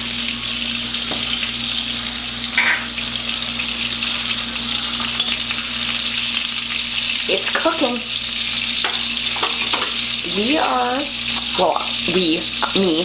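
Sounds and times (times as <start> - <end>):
crackle of frying: 0.0 - 13.0
steak sizzling in a pan: 0.0 - 13.0.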